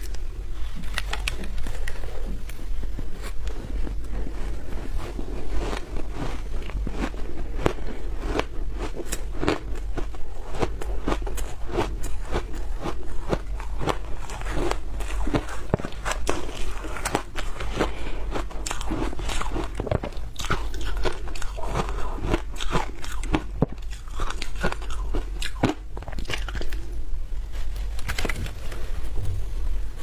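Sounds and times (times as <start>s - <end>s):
crunching frozen food: 0.0s - 27.0s
low hum: 0.0s - 30.0s.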